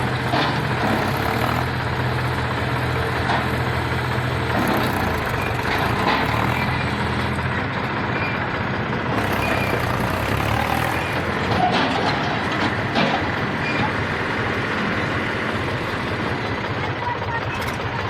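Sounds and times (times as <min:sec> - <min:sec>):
diesel machinery running: 0:00.0 - 0:18.0.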